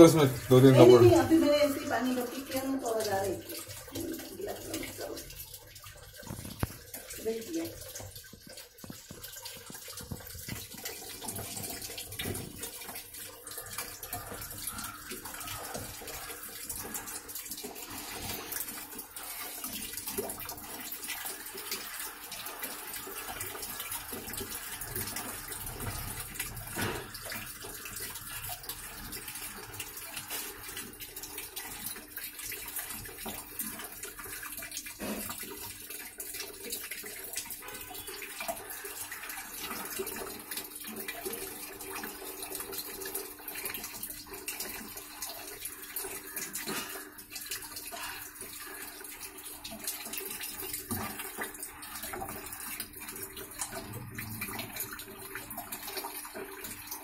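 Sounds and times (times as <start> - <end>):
water pouring into washing machine: 0.0 - 57.0.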